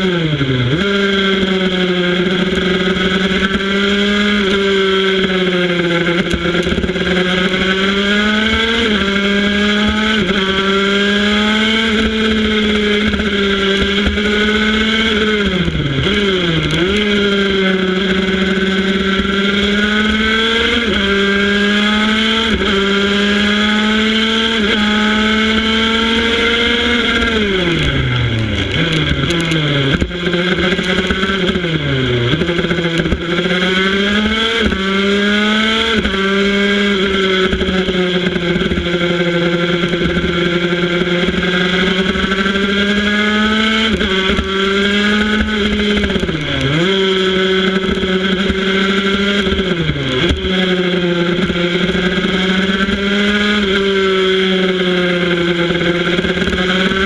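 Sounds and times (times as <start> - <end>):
racing motorcycle engine high revs: 0.0 - 57.0.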